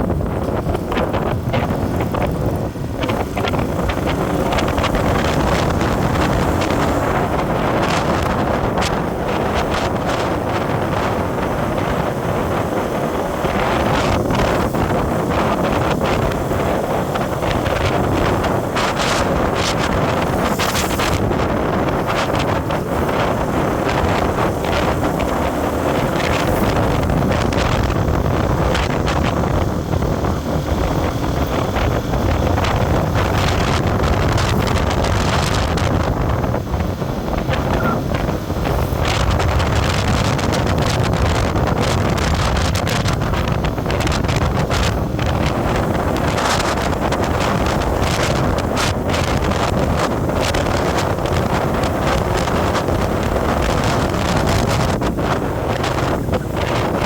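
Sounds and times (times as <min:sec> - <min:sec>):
moving road vehicle: 0:00.0 - 0:57.0
wind buffeting microphone: 0:00.0 - 0:57.0.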